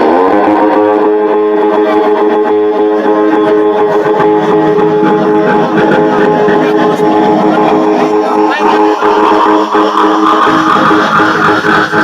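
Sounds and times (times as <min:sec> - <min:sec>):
electric guitar chord: 0:00.0 - 0:12.0.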